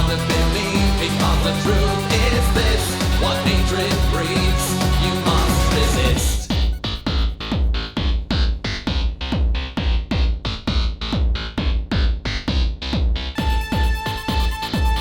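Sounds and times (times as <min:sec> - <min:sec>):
electronic music with kick drum: 0:00.0 - 0:15.0.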